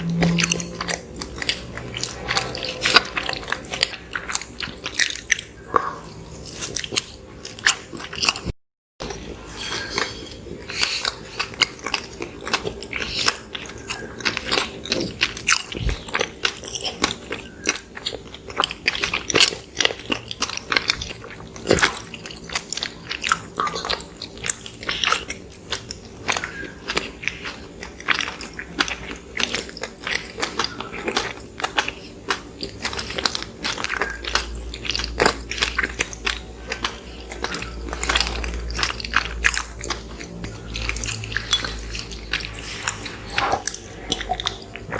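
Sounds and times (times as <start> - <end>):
people chewing soft food: 0.0 - 44.9.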